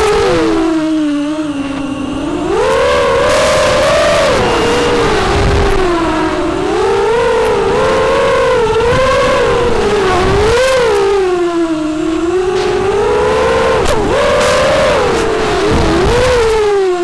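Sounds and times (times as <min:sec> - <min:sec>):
drone motors buzzing whine: 0:00.0 - 0:17.0
wind rushing on microphone: 0:01.6 - 0:16.8.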